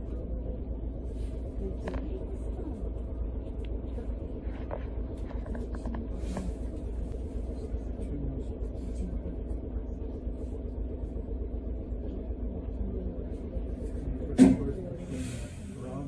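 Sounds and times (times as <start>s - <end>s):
streetcar low rumble: 0.0s - 16.0s.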